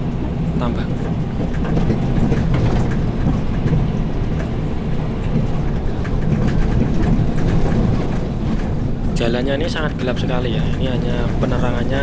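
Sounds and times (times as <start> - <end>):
road noise: 0.0 - 12.0
truck diesel engine rumble: 0.0 - 12.0.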